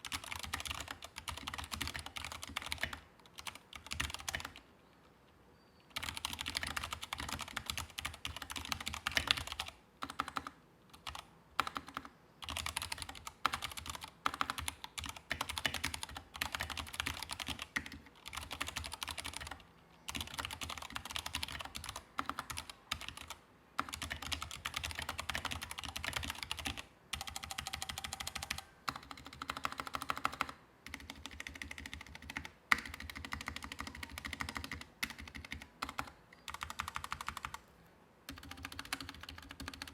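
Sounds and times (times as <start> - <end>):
mechanical keyboard typing: 0.0 - 4.6, 5.9 - 37.6, 38.3 - 39.9.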